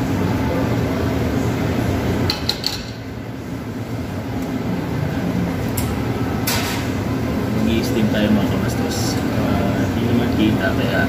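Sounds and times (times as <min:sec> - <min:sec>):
cafe bar hum: 0:00.0 - 0:11.0.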